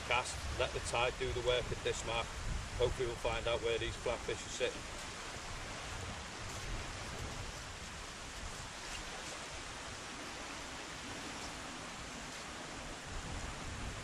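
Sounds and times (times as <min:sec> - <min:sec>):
distant surf hiss: 0:00.0 - 0:14.0
wind on microphone: 0:00.0 - 0:14.0.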